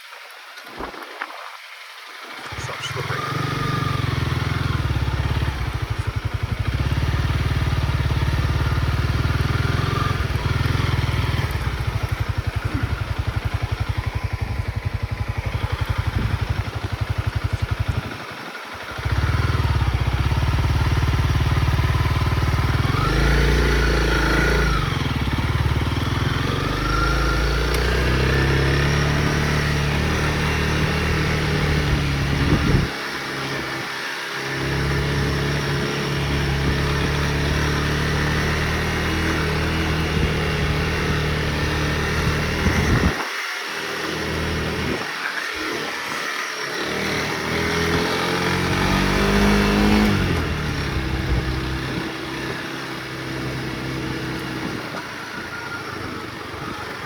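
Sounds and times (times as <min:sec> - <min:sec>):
motorcycle engine running: 0:02.4 - 0:57.0.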